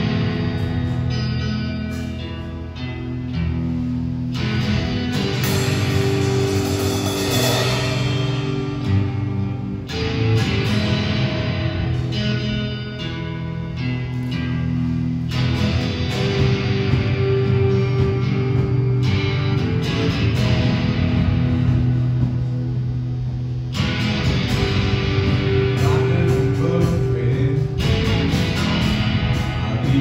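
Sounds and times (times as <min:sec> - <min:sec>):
drum kit playing: 0:00.0 - 0:13.0, 0:14.1 - 0:30.0
acoustic guitar strumming: 0:00.0 - 0:30.0.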